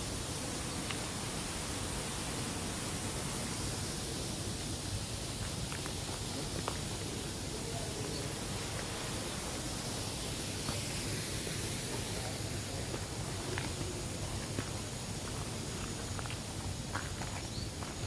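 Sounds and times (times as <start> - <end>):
rainforest hiss: 0.0 - 18.0.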